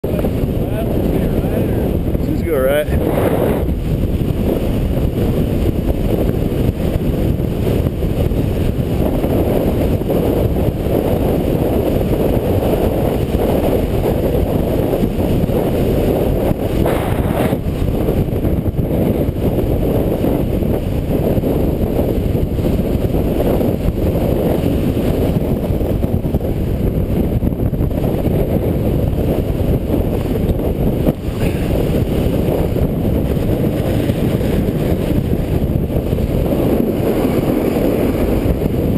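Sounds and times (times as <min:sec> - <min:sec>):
wind rumble: 0:00.0 - 0:38.9
snowboard on packed snow: 0:03.1 - 0:26.2, 0:28.3 - 0:38.9.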